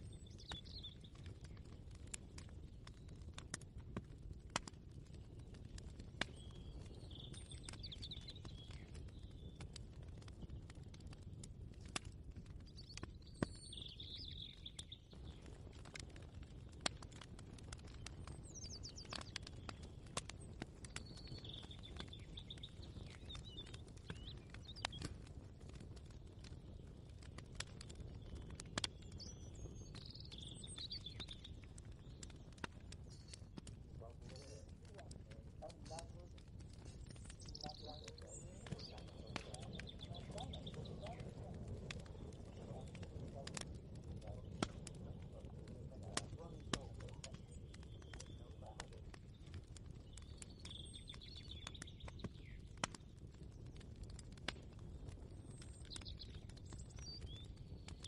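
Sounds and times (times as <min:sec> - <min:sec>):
birds chirping: 0:00.0 - 0:03.5, 0:04.6 - 0:54.1, 0:54.7 - 0:58.0.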